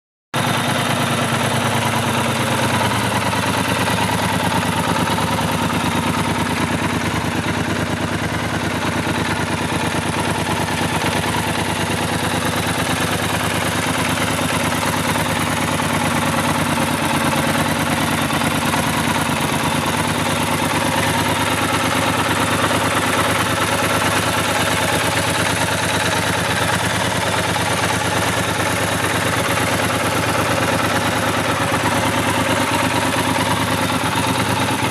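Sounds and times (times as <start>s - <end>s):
motorcycle engine idling: 0.4s - 34.9s.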